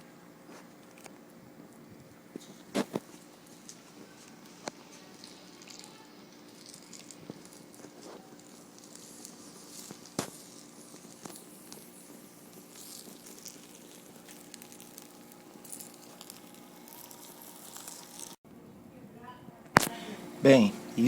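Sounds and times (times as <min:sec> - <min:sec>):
small fire crackling and sizzling: 0:00.0 - 0:18.4.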